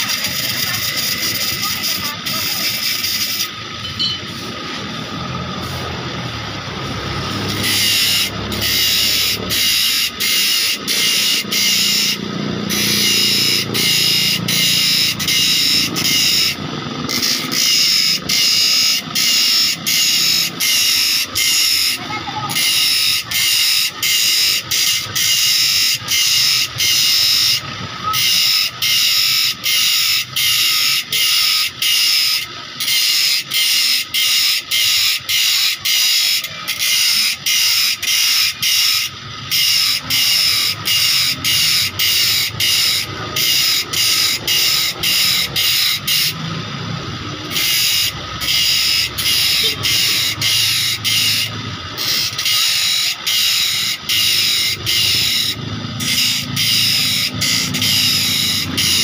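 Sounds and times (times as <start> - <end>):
grinder grinding steel saw blade: 0.0 - 59.0.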